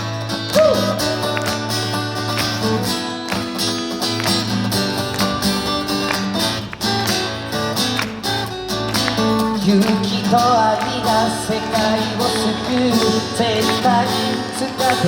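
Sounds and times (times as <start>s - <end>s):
acoustic guitars strumming chords: 0.0s - 15.0s.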